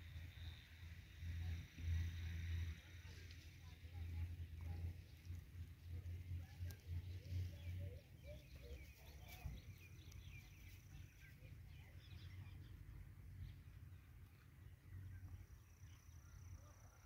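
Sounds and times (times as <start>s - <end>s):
steady low rumble: 0.0s - 17.0s
small birds chirping: 3.2s - 17.0s.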